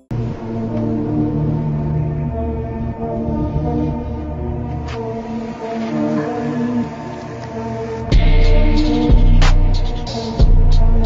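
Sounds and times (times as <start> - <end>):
background music with low drone: 0.0 - 11.0.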